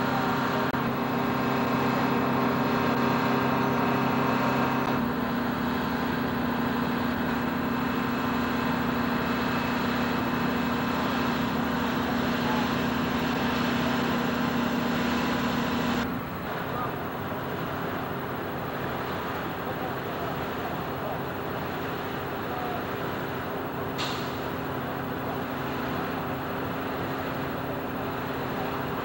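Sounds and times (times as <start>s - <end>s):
aircraft and machinery drone: 0.0s - 29.0s.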